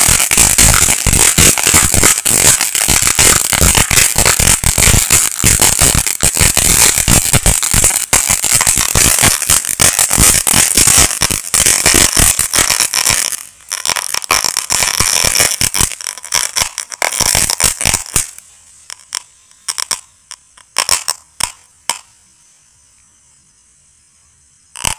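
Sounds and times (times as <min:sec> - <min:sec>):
firecracker fountain crackling: 0:00.0 - 0:22.1.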